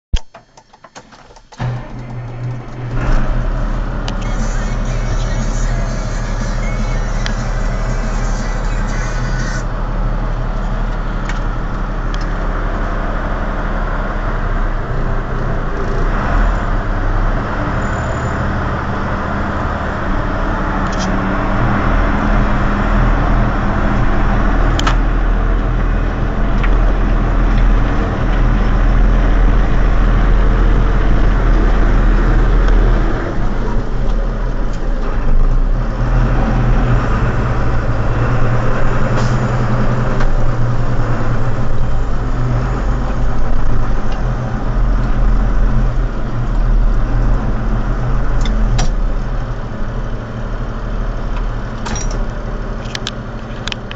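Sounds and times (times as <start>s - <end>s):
tractor diesel engine running: 0.2s - 53.9s.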